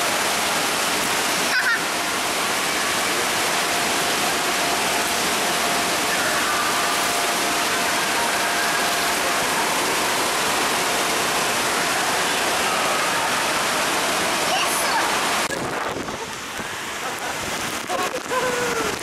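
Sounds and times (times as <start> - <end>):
splashing water rushing: 0.0 - 19.0.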